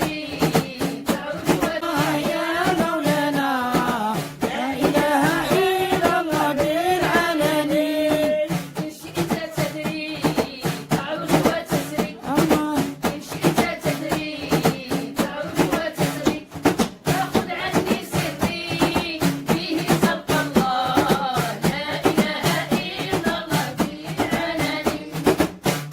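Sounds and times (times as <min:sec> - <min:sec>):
person singing devotional melody: 0:00.0 - 0:25.3
percussive beats: 0:00.0 - 0:25.9.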